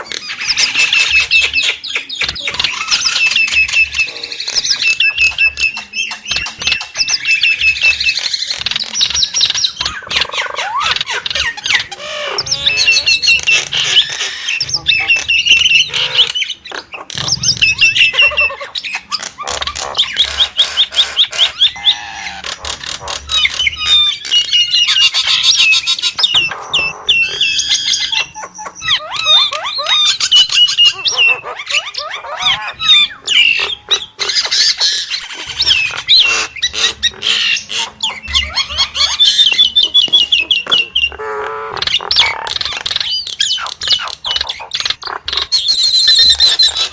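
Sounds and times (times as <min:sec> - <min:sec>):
myna whistling and squawking: 0:00.0 - 0:46.9.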